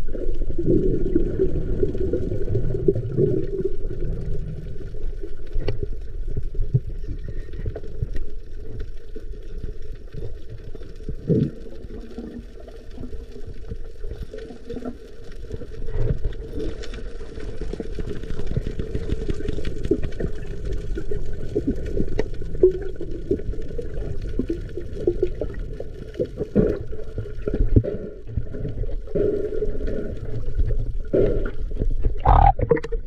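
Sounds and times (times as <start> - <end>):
water sloshing and bubbling: 0.0 - 33.0.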